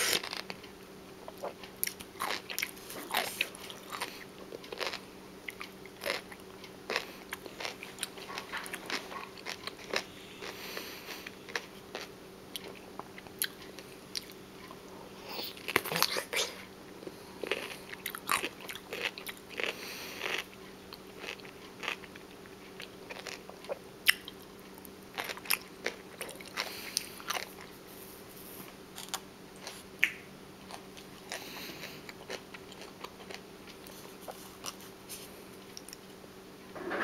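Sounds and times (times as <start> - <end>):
crunchy food chewing: 0.0 - 36.1
faint steady hum: 0.0 - 37.0.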